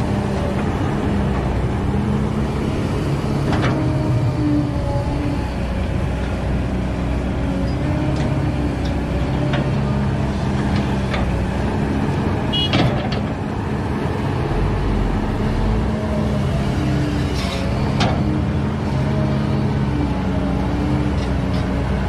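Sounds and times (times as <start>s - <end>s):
excavator diesel engine working: 0.0s - 22.0s.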